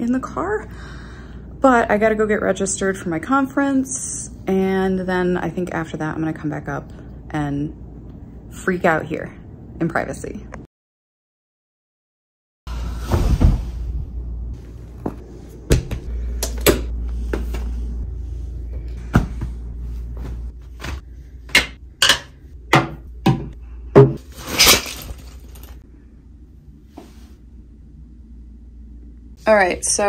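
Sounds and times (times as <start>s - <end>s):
low steady hum: 0.0s - 10.7s, 12.7s - 30.0s.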